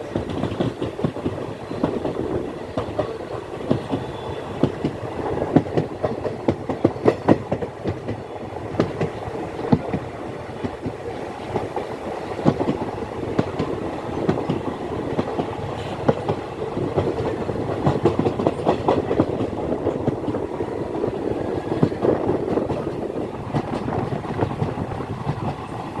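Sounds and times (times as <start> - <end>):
train rumbling along track: 0.0 - 26.0
wheels clacking over rail joints: 0.0 - 26.0.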